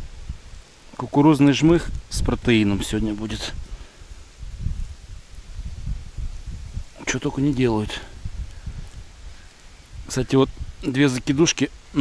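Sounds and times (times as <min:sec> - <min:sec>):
wind buffeting microphone: 0:01.5 - 0:12.0.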